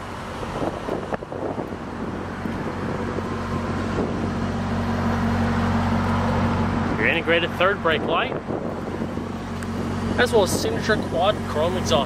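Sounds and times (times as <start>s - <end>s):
car engine idling: 0.0s - 12.0s
wind buffeting microphone: 0.0s - 12.0s.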